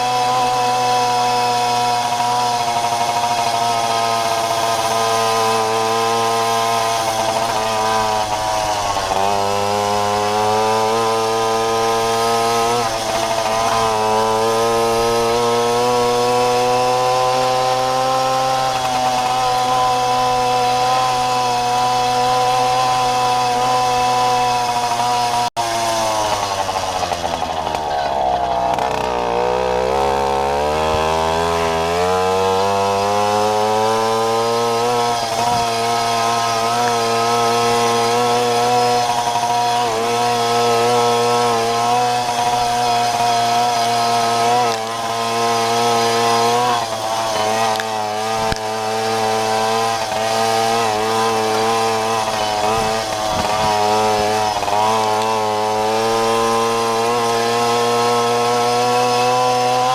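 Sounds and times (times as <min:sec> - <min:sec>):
moped engine running: 0:01.3 - 0:58.7.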